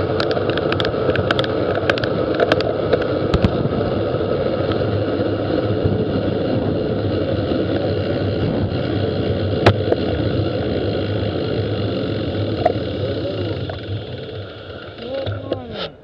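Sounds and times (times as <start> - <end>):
bicycle road rumble: 0.0 - 16.0.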